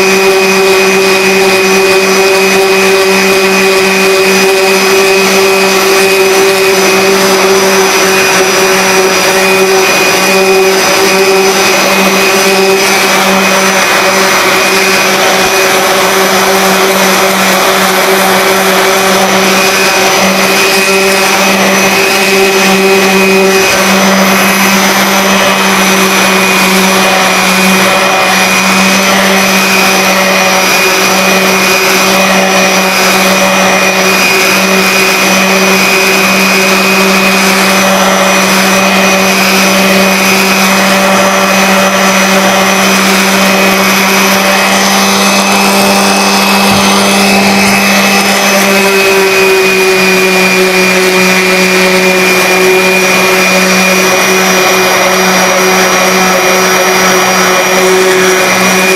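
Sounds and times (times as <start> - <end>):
orbital sander motor whine: 0.0 - 58.9.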